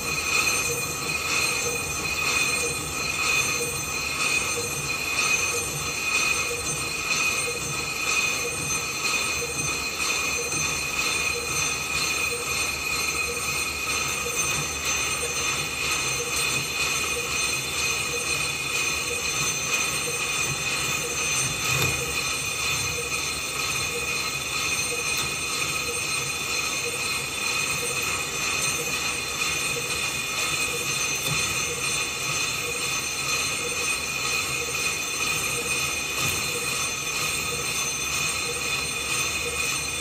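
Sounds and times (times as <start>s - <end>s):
lathe cutting metal with squeal: 0.0s - 40.0s.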